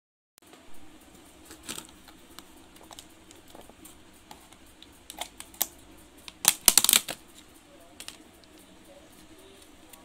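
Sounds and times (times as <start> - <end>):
faint room hiss: 0.4 - 10.0.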